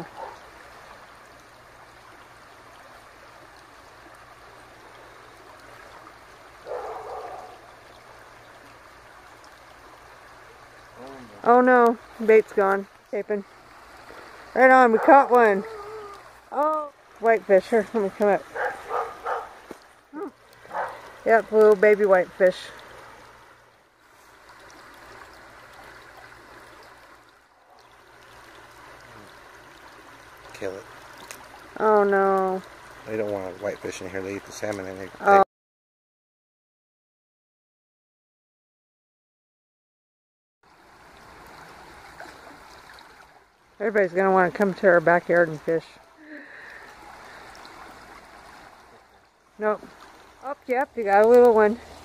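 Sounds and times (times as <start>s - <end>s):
river water rushing: 0.0s - 32.0s, 40.7s - 52.0s.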